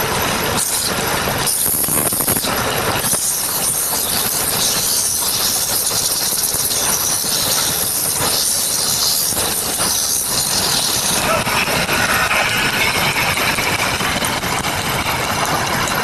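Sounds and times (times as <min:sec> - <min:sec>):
wood lathe tool hissing: 0:00.0 - 0:16.0.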